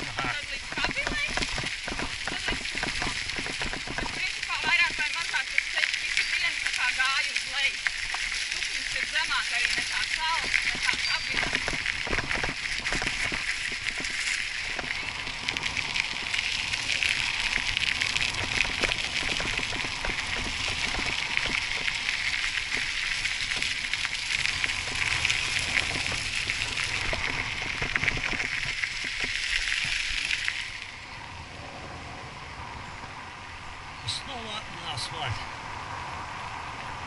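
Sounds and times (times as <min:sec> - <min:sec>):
bike tyres crunching over gravel: 0:00.0 - 0:31.4
bike tyres rolling on asphalt: 0:00.0 - 0:37.0.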